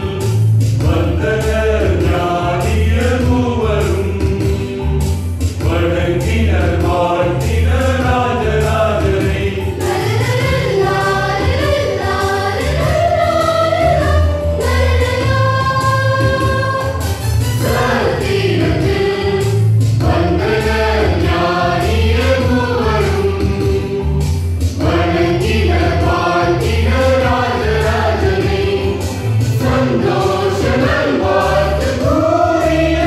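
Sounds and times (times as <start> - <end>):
mixed choir singing in parts: 0.0 - 4.8, 5.6 - 33.0
instrumental accompaniment with bass line: 0.0 - 33.0.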